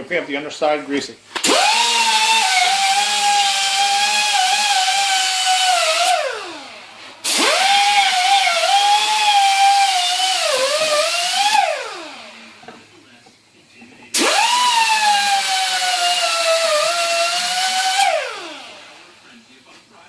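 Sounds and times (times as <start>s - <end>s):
electric power tool whining: 1.4s - 12.6s, 14.2s - 19.1s.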